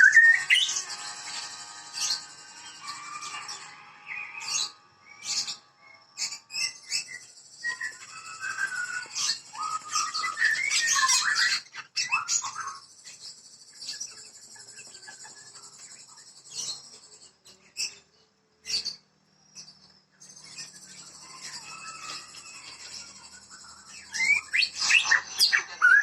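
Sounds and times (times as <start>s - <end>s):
bird whistling song: 0.0s - 19.0s, 19.6s - 26.0s.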